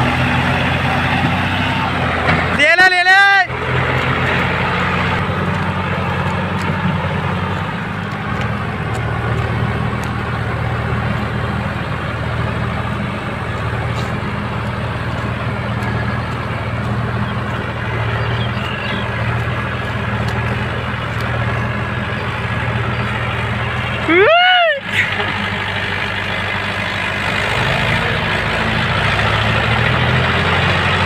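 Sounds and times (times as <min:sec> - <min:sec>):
diesel tractor engines straining: 0:00.0 - 0:31.0.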